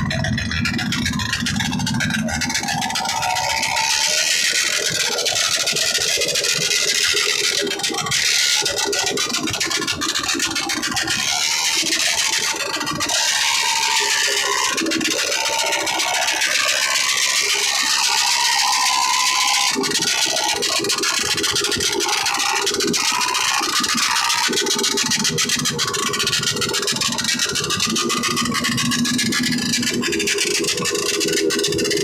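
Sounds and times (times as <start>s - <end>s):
loud steady hiss and rattle: 0.0s - 32.0s
vehicle engine running: 0.0s - 32.0s.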